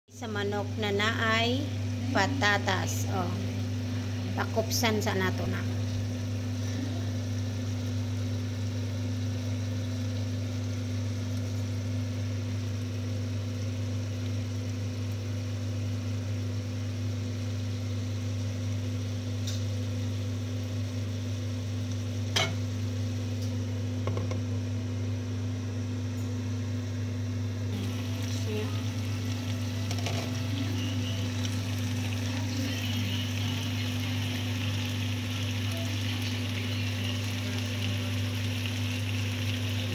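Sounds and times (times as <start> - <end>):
steady low hum: 0.0 - 39.9
food sizzling in a frying pan: 0.4 - 39.9.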